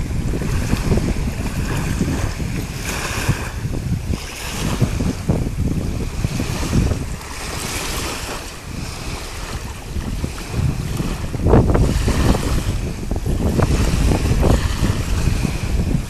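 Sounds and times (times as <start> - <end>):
small waves lapping on shore: 0.0 - 16.0
wind buffeting microphone: 0.0 - 16.0.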